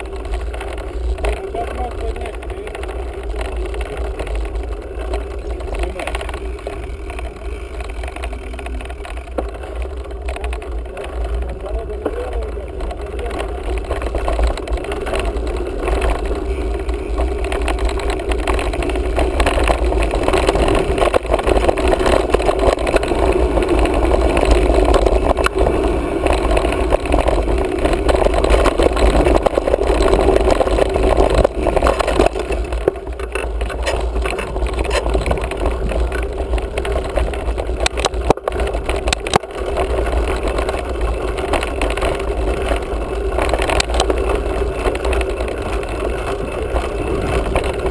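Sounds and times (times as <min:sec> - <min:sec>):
bike rattling over rough ground: 0:00.0 - 0:47.9
wind rumbling on microphone: 0:00.0 - 0:47.9.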